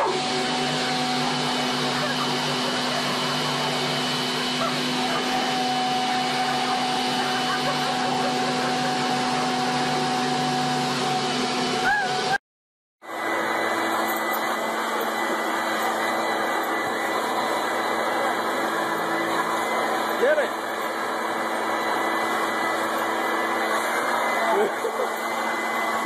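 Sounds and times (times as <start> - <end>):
leaf blower whining motor: 0.0 - 12.4, 13.0 - 26.0.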